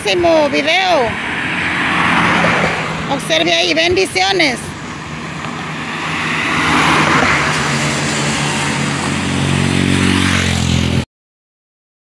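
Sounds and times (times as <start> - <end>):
vehicle engine hum approaching: 0.0 - 11.0
vehicle passing: 0.0 - 11.0.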